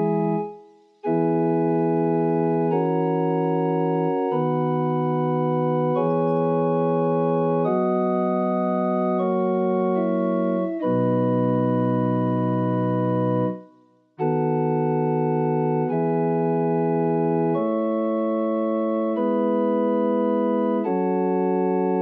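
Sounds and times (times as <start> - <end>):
slow organ chords: 0.0 - 13.6, 14.2 - 22.0.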